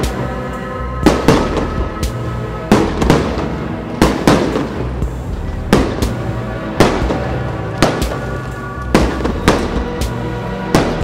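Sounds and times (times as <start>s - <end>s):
music with sustained tones: 0.0s - 11.0s
fireworks bangs: 1.0s - 11.0s.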